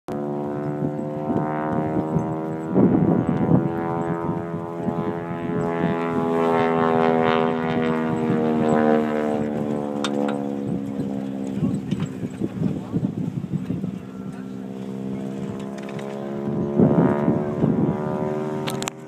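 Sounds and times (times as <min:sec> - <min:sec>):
vehicle engine droning: 0:00.1 - 0:19.0.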